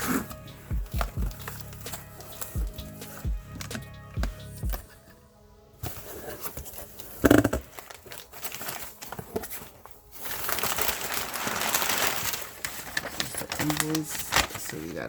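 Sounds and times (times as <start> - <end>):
packaging rustling and crinkling: 0.0 - 3.9, 5.8 - 15.0.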